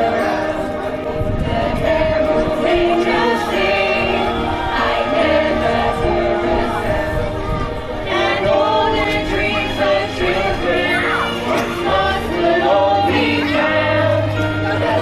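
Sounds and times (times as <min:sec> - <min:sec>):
choir singing a carol: 0:00.0 - 0:15.0.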